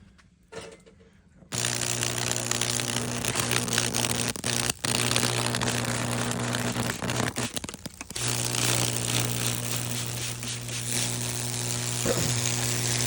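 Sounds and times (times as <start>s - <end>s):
electrical crackling: 1.5s - 13.0s
electrical hum and buzz: 1.5s - 13.0s.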